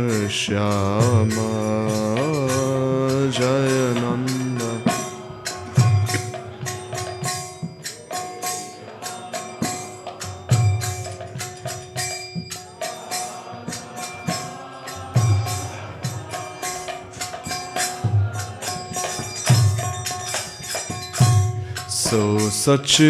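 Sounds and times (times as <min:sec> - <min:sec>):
hand cymbals clashing: 0:00.0 - 0:23.0.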